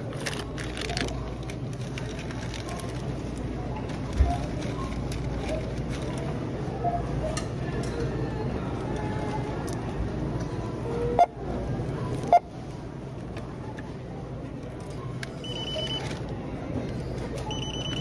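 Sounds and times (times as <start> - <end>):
checkout background noise: 0.0 - 18.0.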